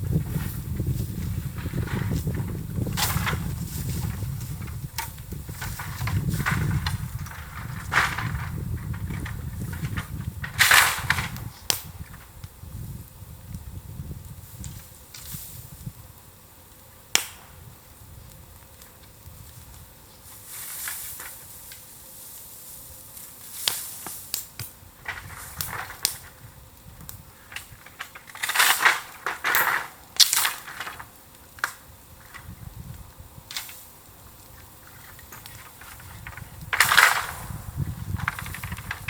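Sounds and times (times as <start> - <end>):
bamboo bonfire crackling and popping: 0.0 - 39.0.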